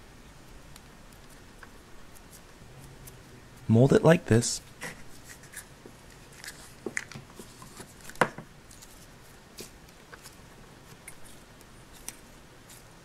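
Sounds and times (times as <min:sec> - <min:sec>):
dough kneading in hands: 0:00.0 - 0:13.0.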